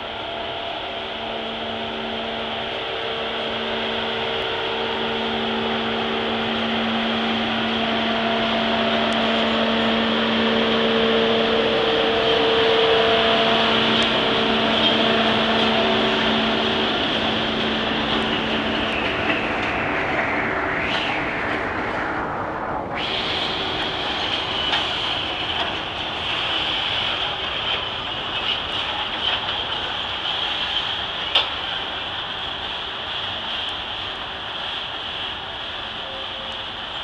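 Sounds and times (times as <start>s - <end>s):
locomotive machine drone: 0.0s - 37.0s
hiss: 5.4s - 37.0s.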